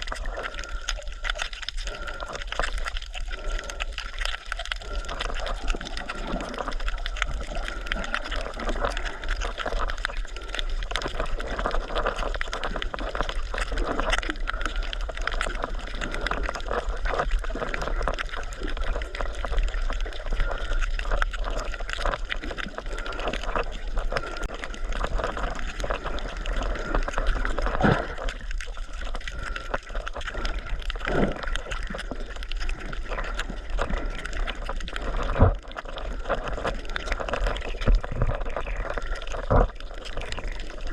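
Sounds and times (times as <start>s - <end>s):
crackling: 0.0s - 40.9s
water sloshing and gurgling: 0.0s - 40.9s.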